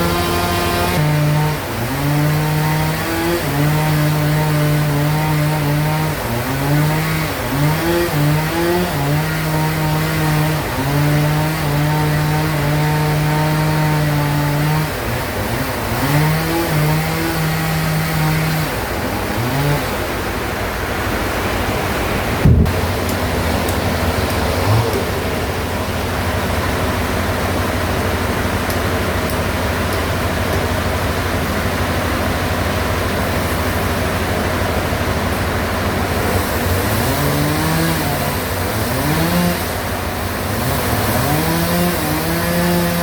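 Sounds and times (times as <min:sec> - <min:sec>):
bandsaw cutting a log: 0:00.0 - 0:20.6, 0:21.8 - 0:43.0.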